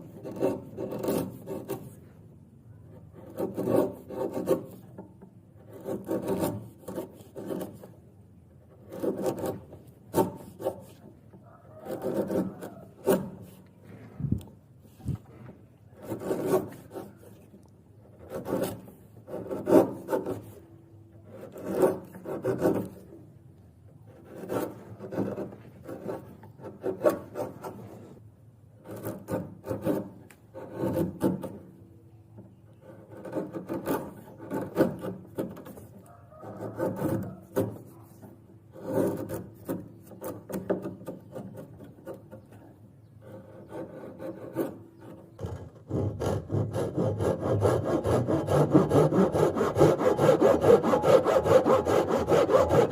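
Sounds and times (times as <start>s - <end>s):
rasping strokes on wood: 0.0s - 2.0s, 3.0s - 5.0s, 5.6s - 8.0s, 8.7s - 13.7s, 16.0s - 17.5s, 18.1s - 20.6s, 21.2s - 23.1s, 24.1s - 28.2s, 28.8s - 31.7s, 32.8s - 42.5s, 43.2s - 52.9s.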